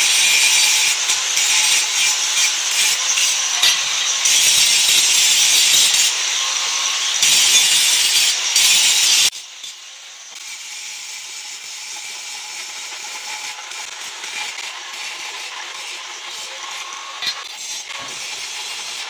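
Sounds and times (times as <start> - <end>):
angle grinder grinding metal: 0.0 - 19.0.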